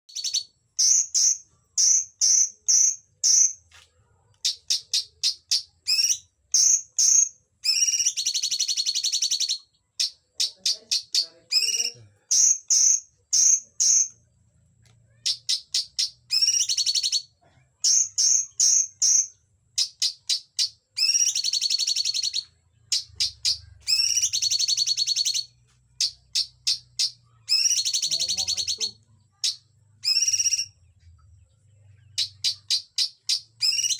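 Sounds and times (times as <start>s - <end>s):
bird singing with trills: 0.0s - 3.6s, 4.4s - 14.2s, 15.2s - 33.9s.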